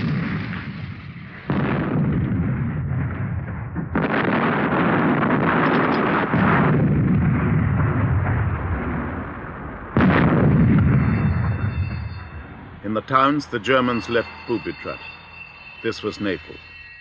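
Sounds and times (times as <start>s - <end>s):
heavy explosions rumbling: 0.0s - 16.5s.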